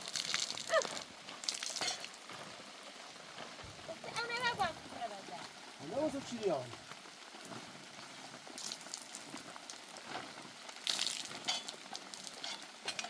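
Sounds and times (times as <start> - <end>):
rain drops tapping: 0.0 - 13.0
rain falling: 0.0 - 13.0.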